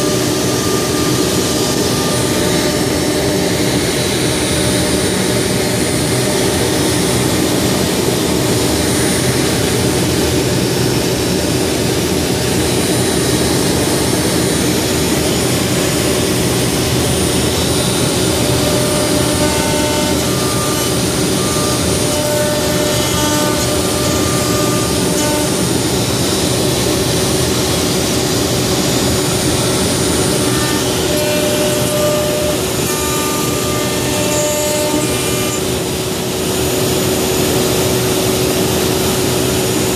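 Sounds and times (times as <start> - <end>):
wood router spindle whine: 0.0 - 39.9.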